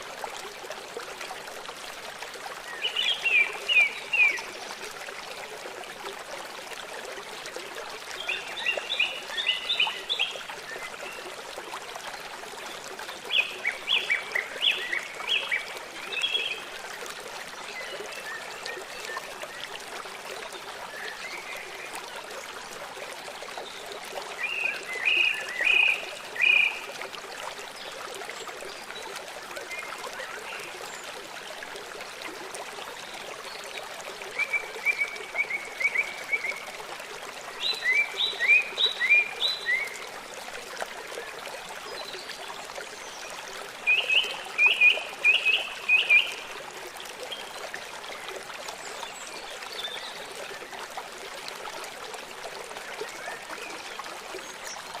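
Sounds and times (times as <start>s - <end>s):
water flowing: 0.0s - 55.0s.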